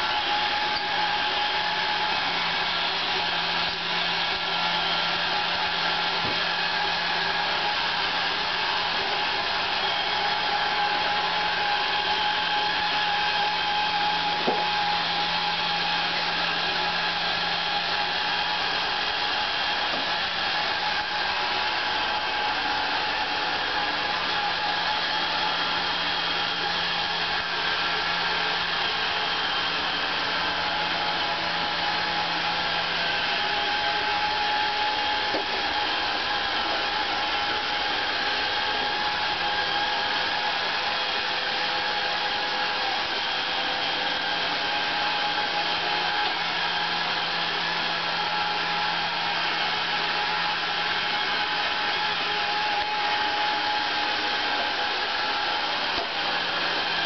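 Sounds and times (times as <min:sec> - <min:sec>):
robot vacuum whirring: 0:00.0 - 0:57.0.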